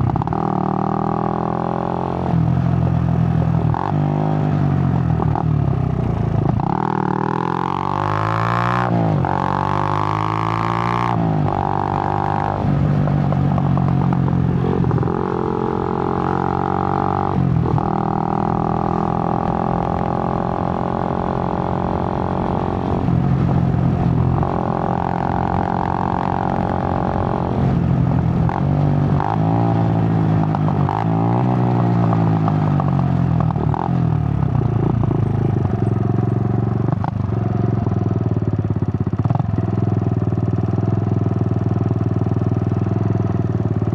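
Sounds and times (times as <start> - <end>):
motorcycle engine shifting gears: 0.0 - 43.9.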